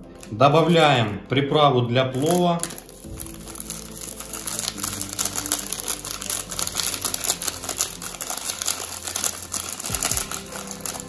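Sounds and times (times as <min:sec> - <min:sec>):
paper sachet crinkling: 0:00.1 - 0:01.1, 0:02.1 - 0:11.0.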